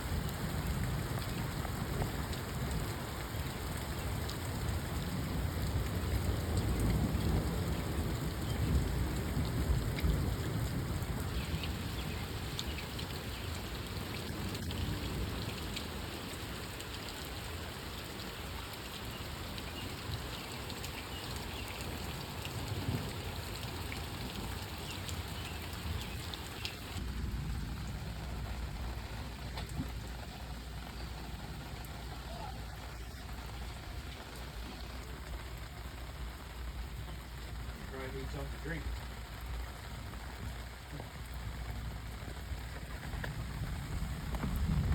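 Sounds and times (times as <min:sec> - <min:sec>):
low rumble of thunder: 0:00.0 - 0:16.0, 0:22.0 - 0:44.9
rain falling: 0:00.0 - 0:44.9.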